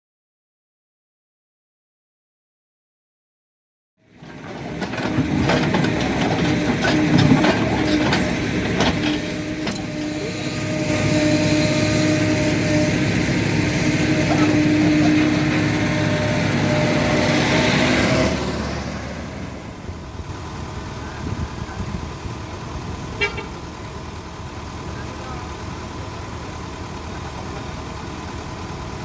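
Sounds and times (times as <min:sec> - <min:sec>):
excavator diesel engine: 0:04.0 - 0:29.0.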